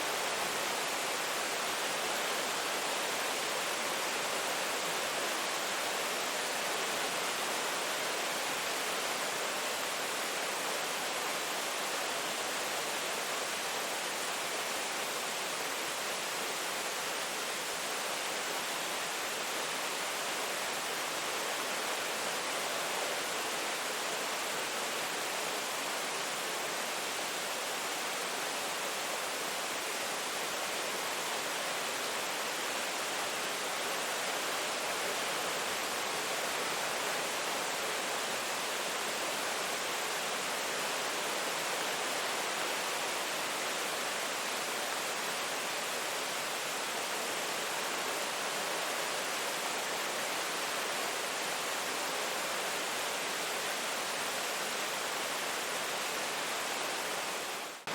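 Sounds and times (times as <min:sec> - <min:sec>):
rain falling: 0:00.0 - 0:57.9.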